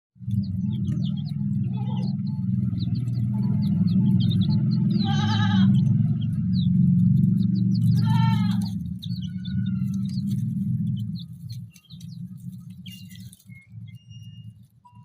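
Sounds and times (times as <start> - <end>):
young chickens peeping: 0.2 - 15.0.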